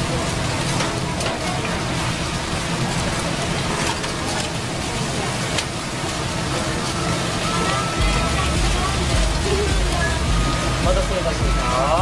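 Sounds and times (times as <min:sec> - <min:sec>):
food sizzling on a hot tray: 0:00.0 - 0:12.0.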